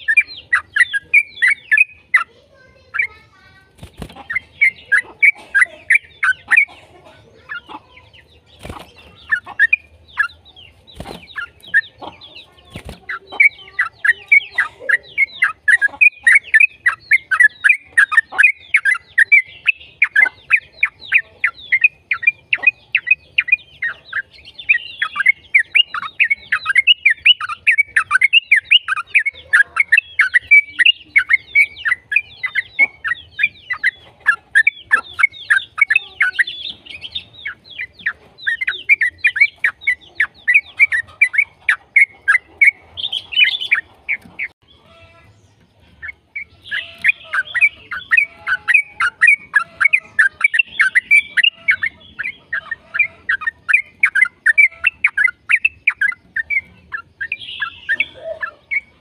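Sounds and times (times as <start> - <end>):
bird chattering chirps: 0.0 - 59.0.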